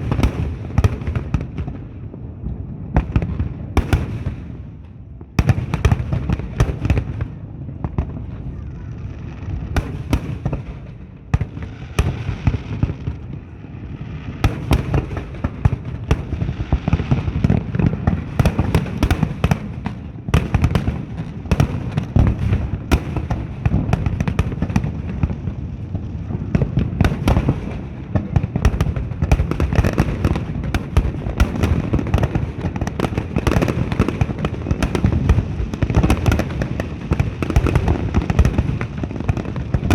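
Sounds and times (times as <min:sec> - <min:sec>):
fireworks bursting: 0:00.0 - 0:02.2, 0:02.8 - 0:39.9
continuous low rumble: 0:00.0 - 0:39.9.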